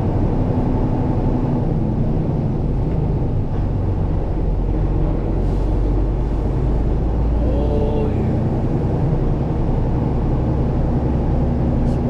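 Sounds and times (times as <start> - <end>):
truck engine drone from inside cab: 0.0 - 12.0.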